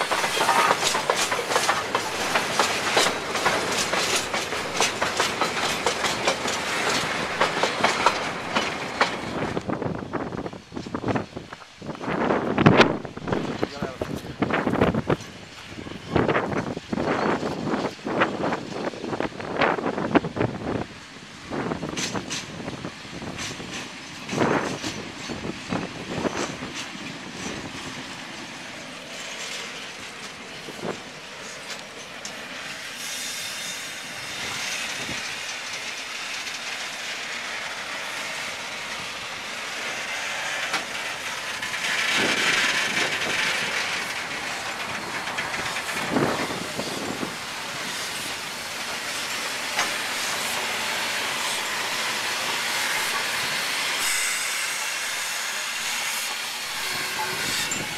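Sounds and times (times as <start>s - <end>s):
steam hissing: 0.0s - 11.5s, 21.0s - 57.9s
wheels clunking over rail joints: 0.0s - 57.9s.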